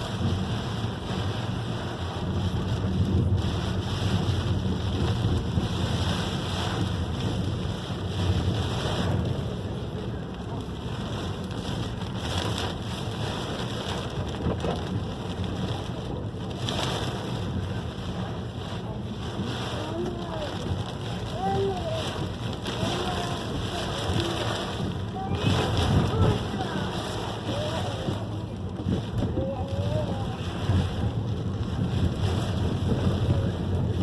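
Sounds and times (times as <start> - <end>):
heavy rain hiss: 0.0 - 34.0
wind buffeting microphone: 0.0 - 34.0.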